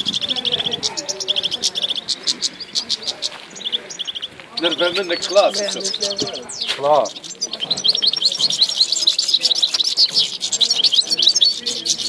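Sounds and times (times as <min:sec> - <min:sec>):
goldfinch twittering chirps and trills: 0:00.0 - 0:12.0.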